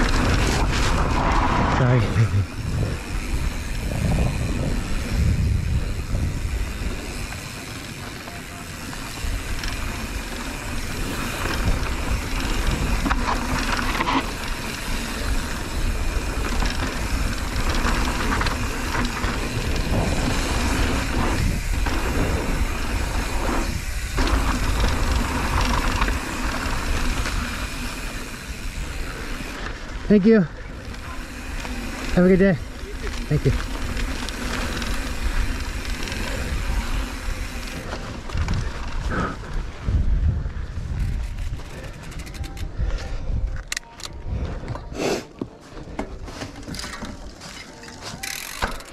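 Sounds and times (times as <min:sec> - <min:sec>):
tyres rolling over dirt: 0:00.0 - 0:39.8
bike rattling over bumps: 0:00.0 - 0:44.7, 0:45.7 - 0:48.9.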